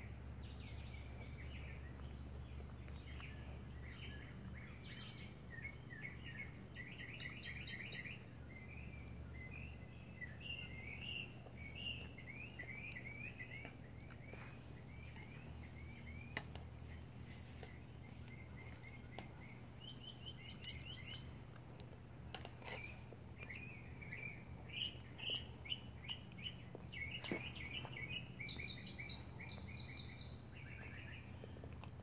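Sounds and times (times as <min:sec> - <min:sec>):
faint low hum: 0:00.0 - 0:32.0
songbirds chirping and trilling: 0:00.0 - 0:32.0.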